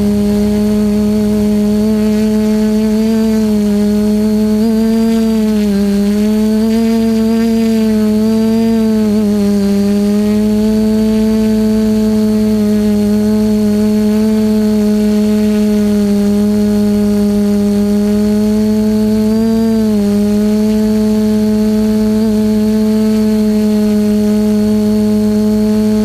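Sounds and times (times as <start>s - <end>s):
drone motors humming: 0.0s - 26.0s
high-pitched whine: 0.0s - 26.0s.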